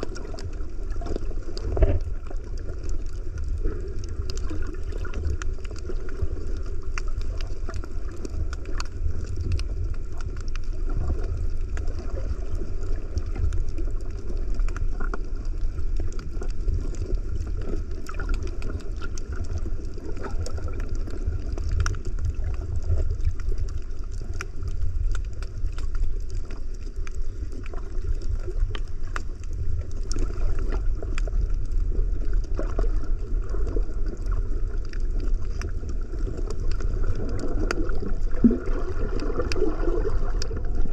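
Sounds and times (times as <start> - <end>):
muffled underwater water rumble: 0.0 - 40.9
small clicks and crackles: 0.0 - 40.9.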